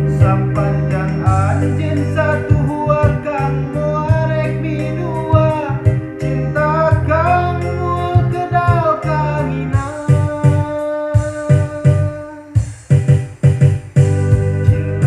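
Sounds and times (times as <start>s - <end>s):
person singing pop song: 0.0s - 13.2s
bass: 0.0s - 15.0s
guitar: 0.0s - 15.0s
ticking beat: 0.0s - 15.0s.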